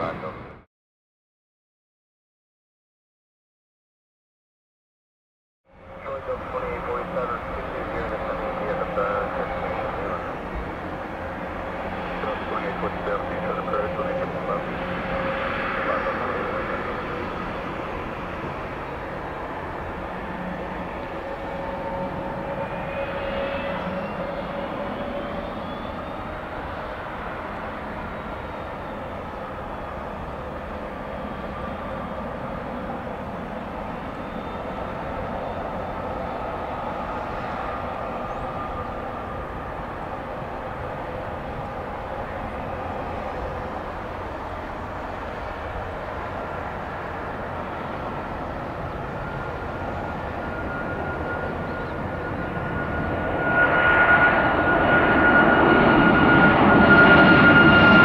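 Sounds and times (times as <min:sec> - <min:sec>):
jet engines running: 0:05.9 - 0:58.0.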